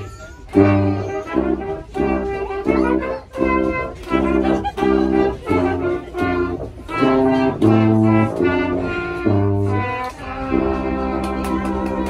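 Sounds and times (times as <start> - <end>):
brass band playing: 0.4 - 12.0
tuba bass notes: 0.5 - 12.0.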